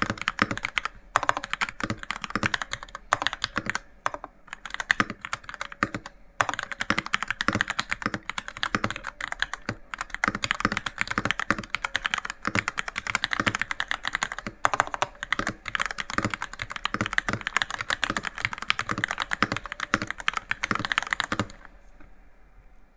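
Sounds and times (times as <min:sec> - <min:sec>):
mechanical keyboard typing: 0:00.0 - 0:21.7.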